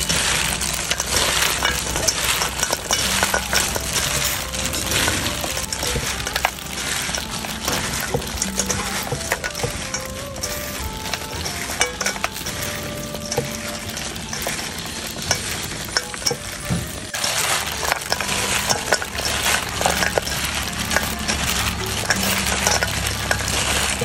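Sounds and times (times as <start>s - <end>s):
fried food tossed in a steel bowl: 0.0s - 24.0s.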